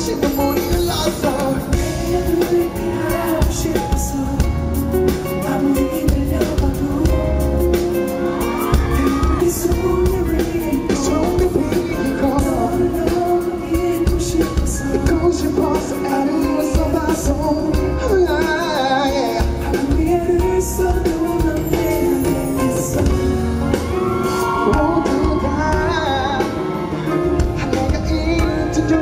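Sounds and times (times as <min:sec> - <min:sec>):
live pop band playing: 0:00.0 - 0:29.0
man singing into microphone: 0:00.0 - 0:29.0.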